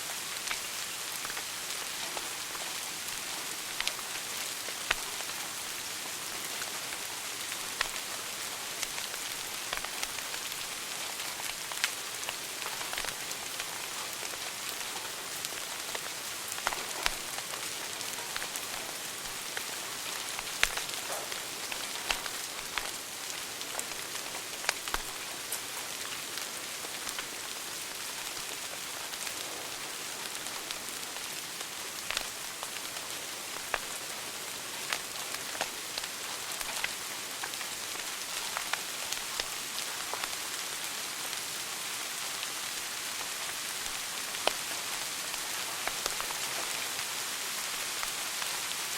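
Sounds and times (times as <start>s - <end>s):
wood fire crackling and popping: 0.4s - 41.4s, 43.2s - 46.8s.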